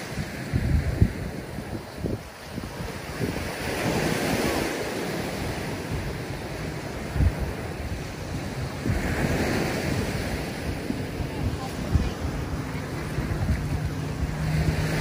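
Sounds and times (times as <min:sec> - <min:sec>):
small surf washing up: 0:00.0 - 0:15.0
wind gusting on microphone: 0:00.0 - 0:15.0.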